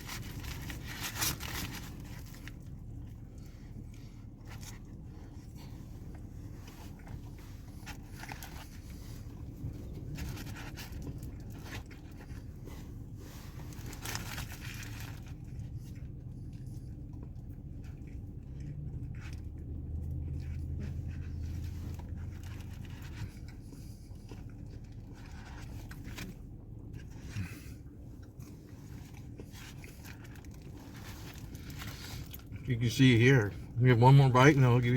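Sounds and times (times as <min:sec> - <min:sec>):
person chewing food: 0:00.0 - 0:32.6
steady low hum: 0:00.0 - 0:34.9.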